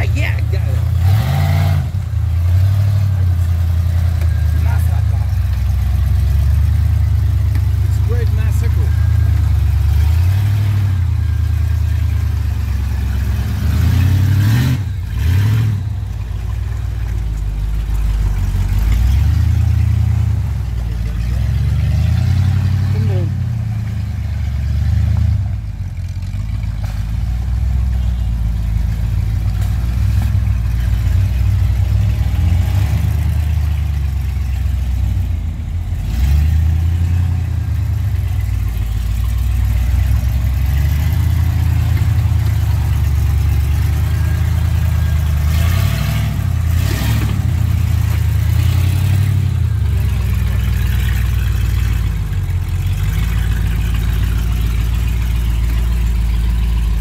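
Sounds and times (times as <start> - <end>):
offroad vehicle engine revving: 0.0 - 57.0.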